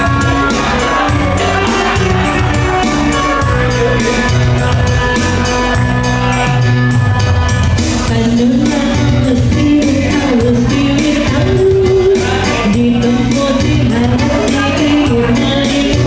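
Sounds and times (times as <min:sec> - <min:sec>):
bass line: 0:00.0 - 0:16.0
steady drum beat: 0:00.0 - 0:16.0
upbeat music: 0:00.0 - 0:16.0.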